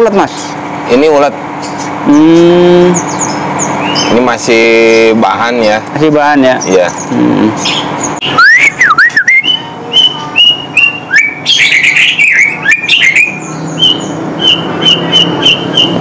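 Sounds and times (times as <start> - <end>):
songbirds calling: 0.0 - 16.0.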